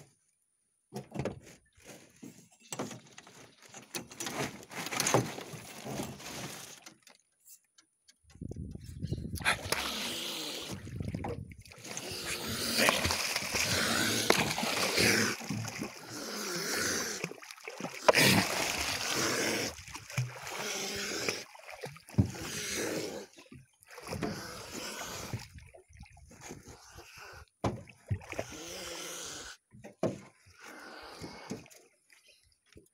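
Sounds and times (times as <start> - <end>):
water splashing and sloshing: 1.0 - 7.3, 8.3 - 28.9, 29.6 - 32.9.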